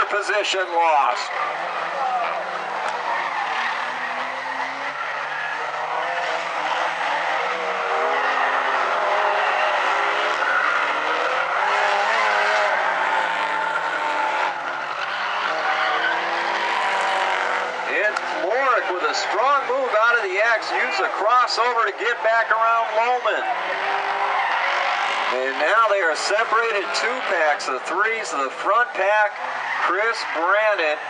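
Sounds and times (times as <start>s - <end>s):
race car engines accelerating: 0.0s - 31.0s
tyres skidding and squealing: 0.0s - 31.0s.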